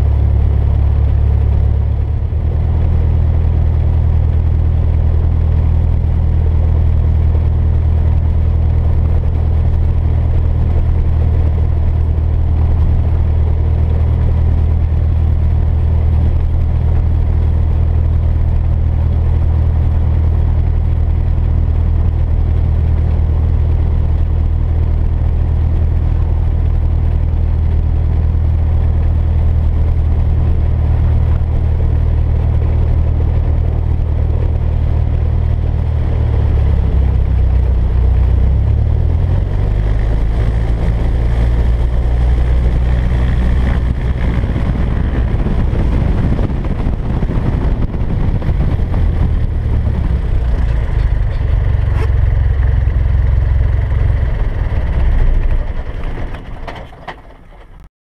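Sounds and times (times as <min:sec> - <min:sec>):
light aircraft engine and propeller: 0:00.0 - 0:57.8.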